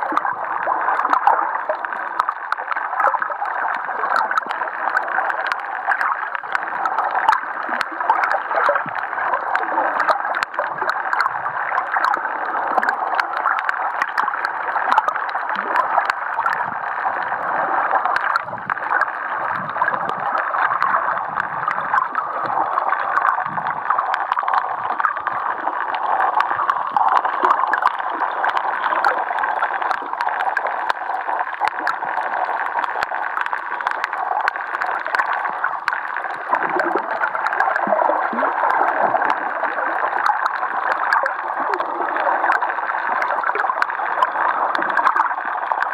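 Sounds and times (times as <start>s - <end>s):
low gurgles: 0.0s - 45.9s
muffled underwater water rush: 0.0s - 45.9s
small clicks and crackles: 0.0s - 45.9s.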